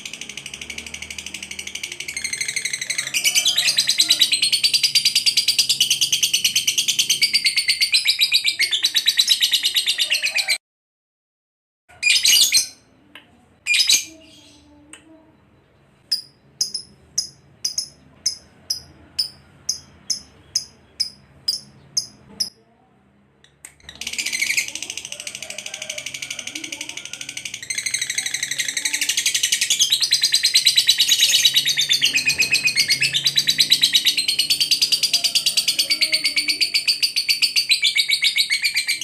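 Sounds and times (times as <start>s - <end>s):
lovebird chattering song: 0.0s - 10.6s, 16.1s - 22.5s, 23.5s - 39.0s.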